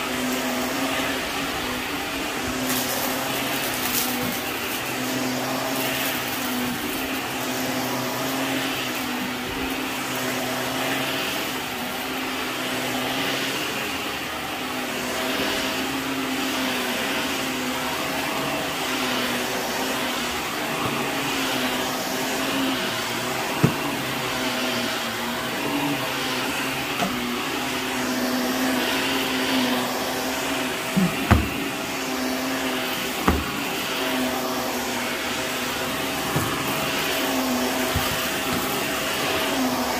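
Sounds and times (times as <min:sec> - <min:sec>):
vacuum cleaner motor hum: 0:00.0 - 0:39.9.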